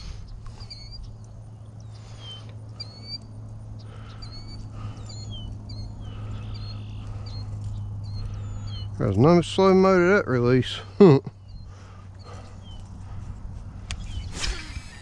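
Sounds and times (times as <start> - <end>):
birds chirping and whistling: 0.0 - 15.0
low hum: 0.0 - 15.0.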